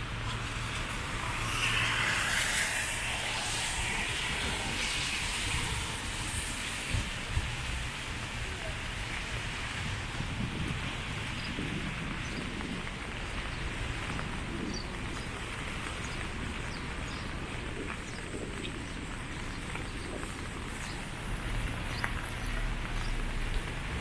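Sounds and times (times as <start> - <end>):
low rumble: 0.0 - 24.0
steady rain: 0.0 - 24.0.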